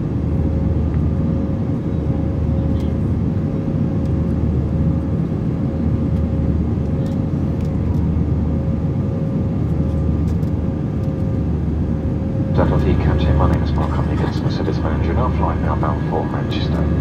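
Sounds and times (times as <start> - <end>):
engine and airflow rumble: 0.0 - 17.0
faint constant hum: 0.0 - 17.0.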